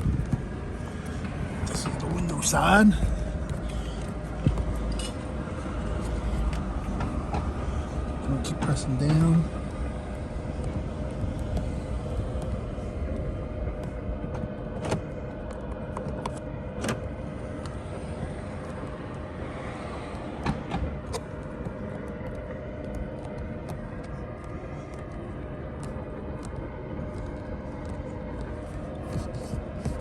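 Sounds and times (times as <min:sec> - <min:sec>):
car cabin hum and rumble: 0:00.0 - 0:30.0.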